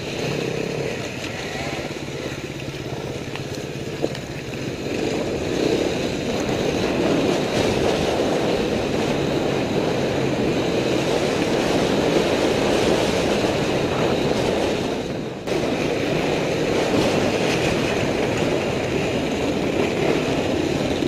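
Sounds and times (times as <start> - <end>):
motorcycle engine rumble: 0.0 - 21.0
motorcycle rattling: 0.0 - 21.0
wind noise: 0.0 - 21.0.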